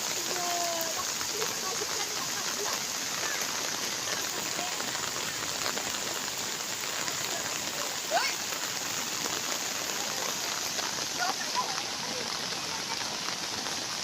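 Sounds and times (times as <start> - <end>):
rain and floodwater hissing: 0.0 - 14.0.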